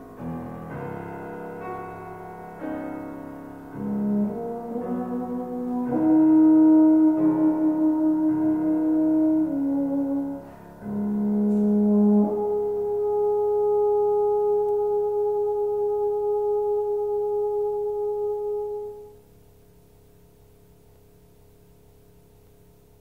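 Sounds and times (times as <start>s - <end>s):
euphonium slow melody: 0.0s - 19.4s.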